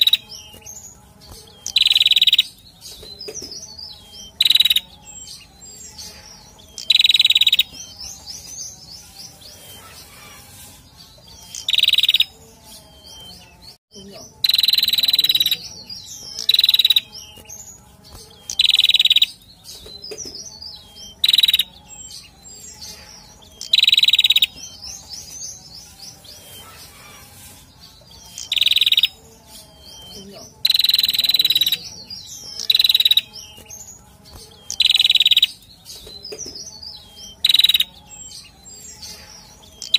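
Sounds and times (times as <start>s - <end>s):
bird calling sharp phrases: 0.0s - 8.3s, 9.5s - 13.5s, 14.2s - 25.4s, 26.3s - 33.8s, 34.4s - 39.9s
soft high bird chirps: 0.0s - 39.9s.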